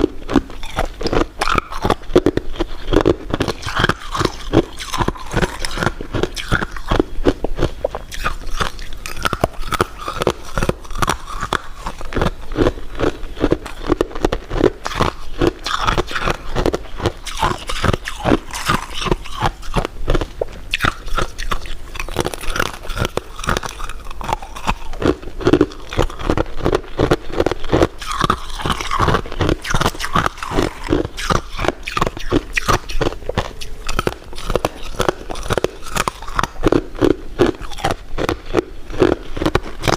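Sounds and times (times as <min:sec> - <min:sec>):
chewing crunchy food: 0:00.0 - 0:39.9
wet mouth clicks: 0:00.0 - 0:39.9.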